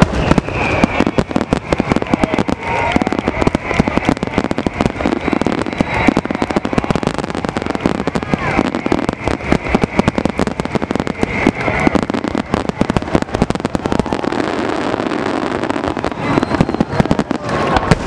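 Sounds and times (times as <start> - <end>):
fireworks bursting: 0.0 - 18.0
fireworks crackling: 0.0 - 18.0.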